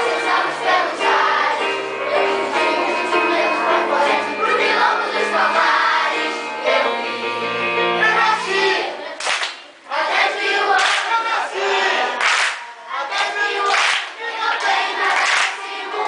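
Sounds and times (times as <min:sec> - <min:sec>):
children's choir singing: 0:00.0 - 0:16.0.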